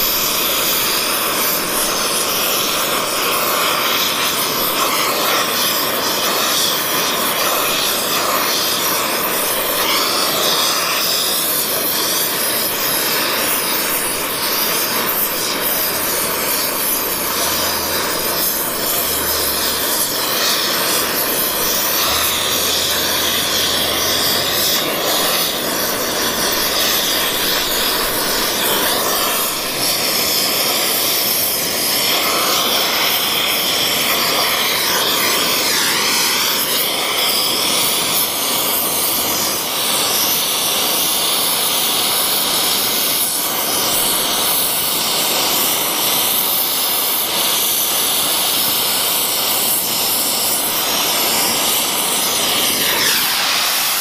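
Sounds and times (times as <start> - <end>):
torch flame hissing: 0.0 - 54.0.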